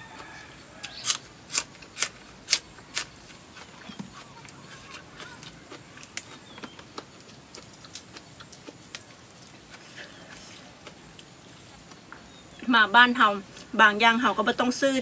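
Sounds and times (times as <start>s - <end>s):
person chewing crunchy food: 0.0s - 12.1s.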